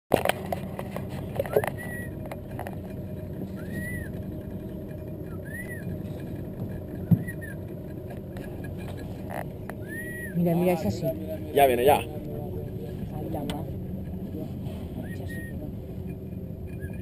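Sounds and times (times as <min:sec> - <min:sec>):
outboard motor running: 0:00.1 - 0:17.0.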